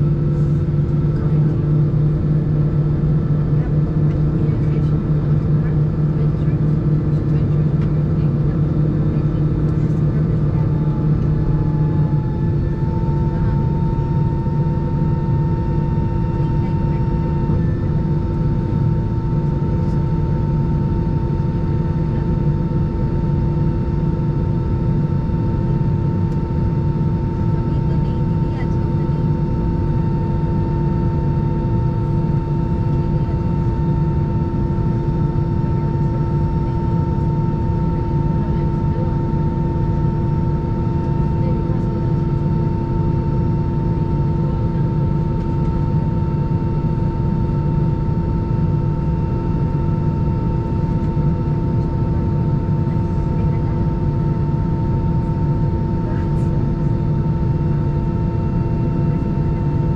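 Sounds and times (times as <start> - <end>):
aircraft cabin rumble and hum: 0.0 - 59.9.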